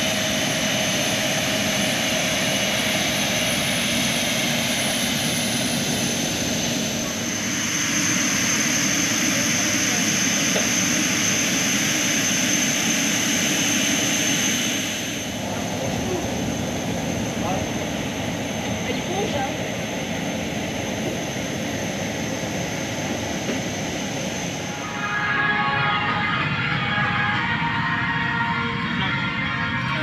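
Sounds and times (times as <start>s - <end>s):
jet aircraft rushing and whine: 0.0s - 30.0s.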